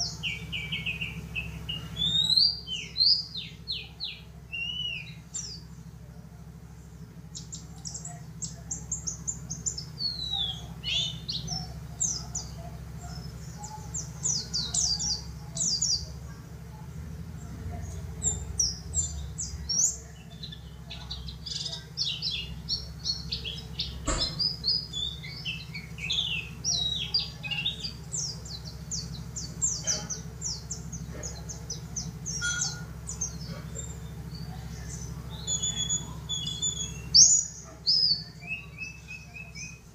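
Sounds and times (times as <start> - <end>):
bird singing high chirps: 0.0 - 16.5, 17.7 - 39.9.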